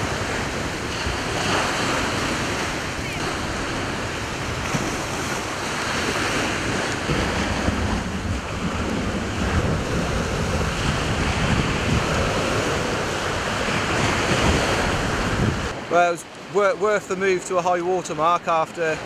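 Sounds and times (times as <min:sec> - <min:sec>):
surf breaking on pebble beach: 0:00.0 - 0:15.8
wind buffeting microphone: 0:00.0 - 0:15.9.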